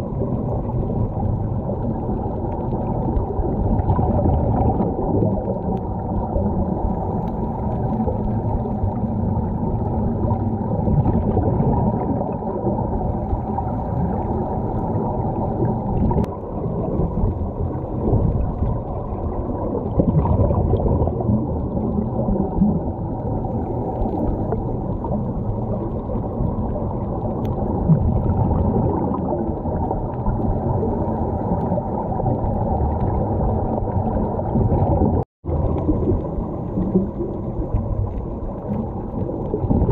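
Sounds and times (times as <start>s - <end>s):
air bubbles gurgling: 0.0s - 39.9s
muffled underwater rumble: 0.0s - 39.9s.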